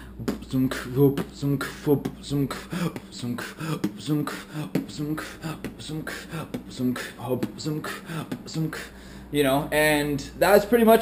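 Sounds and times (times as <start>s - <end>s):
person beatboxing: 0.0s - 9.0s.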